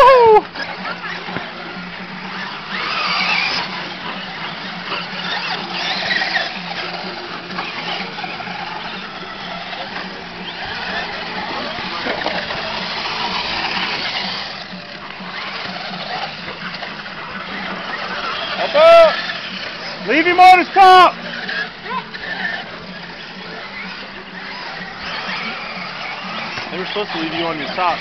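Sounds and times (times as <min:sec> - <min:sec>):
tyres on dirt: 0:00.0 - 0:28.0
toy truck motor whine: 0:00.1 - 0:28.0.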